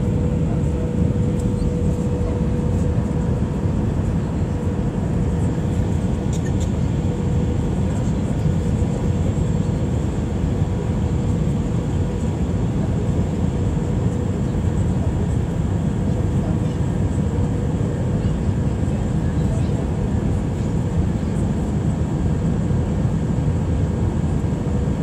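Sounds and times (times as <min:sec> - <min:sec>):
engines and airflow rushing: 0:00.0 - 0:25.0.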